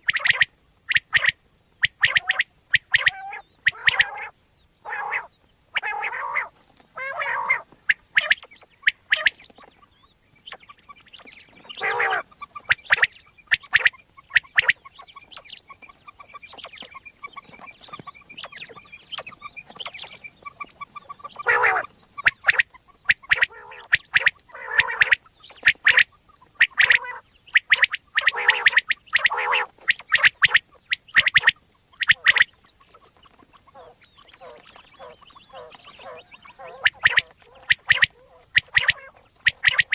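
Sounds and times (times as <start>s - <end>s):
quail chirps and calls: 0.0s - 39.9s.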